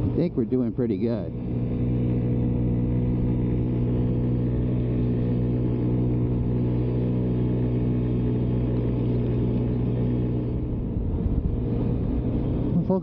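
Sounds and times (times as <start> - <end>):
scooter engine droning: 0.0 - 13.0.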